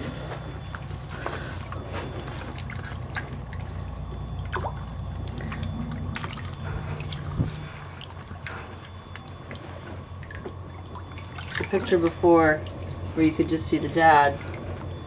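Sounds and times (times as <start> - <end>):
low steady rumble: 0.0 - 15.0
water splashing and dripping: 0.4 - 15.0.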